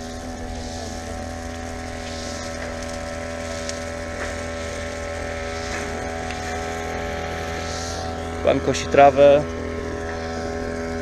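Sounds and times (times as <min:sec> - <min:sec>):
grass cutter engine running: 0:00.0 - 0:11.0.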